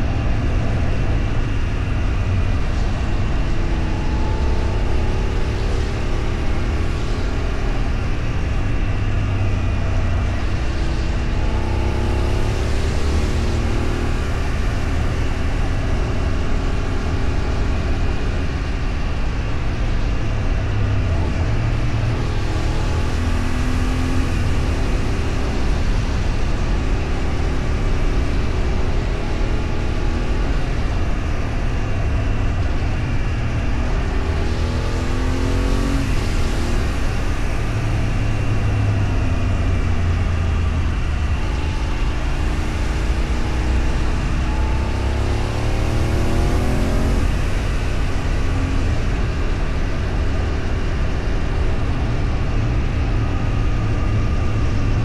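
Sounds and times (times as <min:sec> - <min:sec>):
road and wind noise: 0:00.0 - 0:55.0
vehicle engine accelerating: 0:00.0 - 0:55.0.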